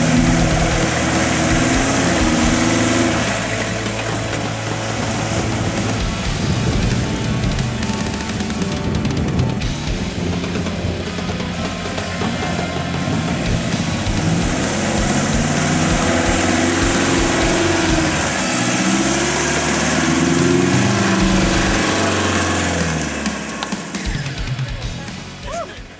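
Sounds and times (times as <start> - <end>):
diesel engine revving: 0.0 - 25.9.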